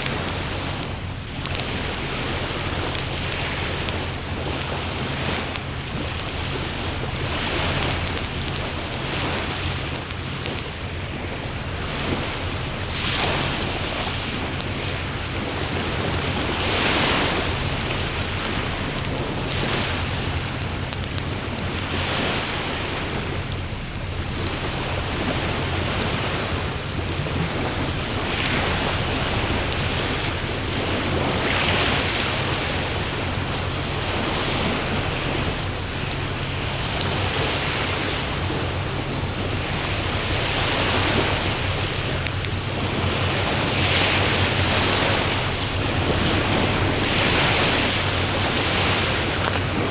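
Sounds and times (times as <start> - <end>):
fire crackles and pops: 0.0 - 49.9
rushing of flames: 0.0 - 49.9.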